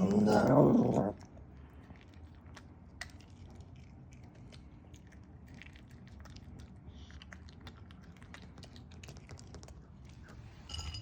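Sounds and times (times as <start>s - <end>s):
puppy crunching dry kibble: 0.0s - 11.0s.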